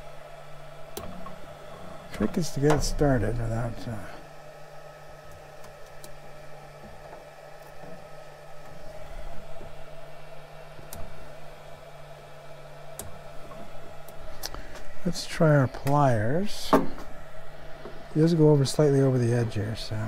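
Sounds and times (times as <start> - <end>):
printer fans humming: 0.0 - 20.0.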